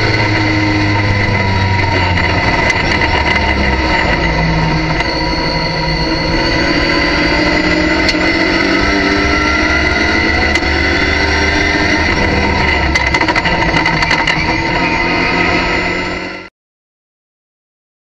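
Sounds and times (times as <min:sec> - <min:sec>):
race car engine pulling hard: 0:00.0 - 0:16.5.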